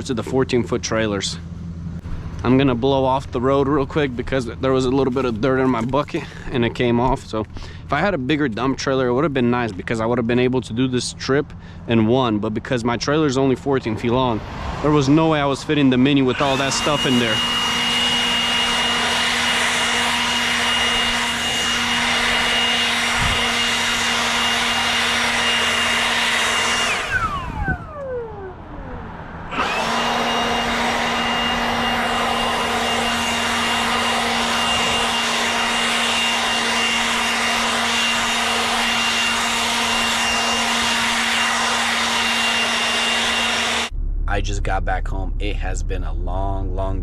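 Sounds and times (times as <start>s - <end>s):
leaf blower running: 0.9s - 10.0s, 15.1s - 43.9s.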